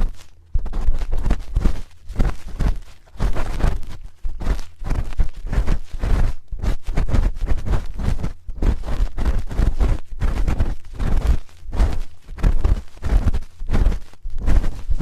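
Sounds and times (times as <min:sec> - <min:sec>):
spoon scraping a microphone: 0:00.0 - 0:15.0.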